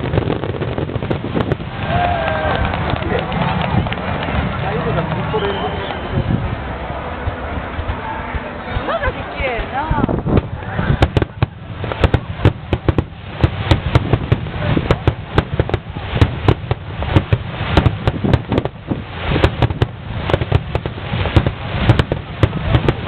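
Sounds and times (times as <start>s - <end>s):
fireworks bangs and crackles: 0.0s - 23.0s
low rumble of booms: 0.0s - 23.0s.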